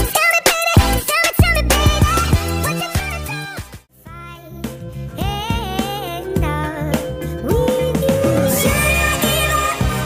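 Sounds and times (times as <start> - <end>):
sped-up music: 1.7 - 10.0.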